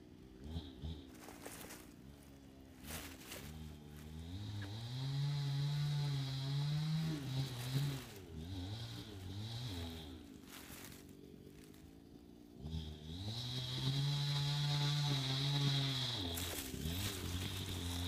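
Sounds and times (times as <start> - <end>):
distant chainsaw running: 0.0 - 18.0.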